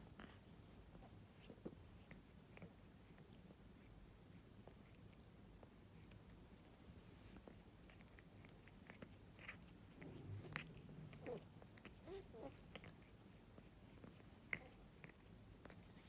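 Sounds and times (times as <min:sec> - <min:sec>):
cat tongue licking fur: 0:01.4 - 0:16.0.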